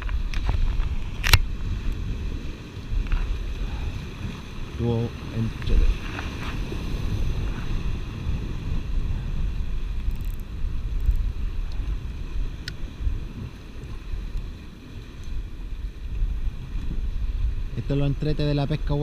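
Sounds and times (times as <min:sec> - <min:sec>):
surf breaking on rocks: 0:00.0 - 0:19.0
wind buffeting microphone: 0:00.0 - 0:19.0.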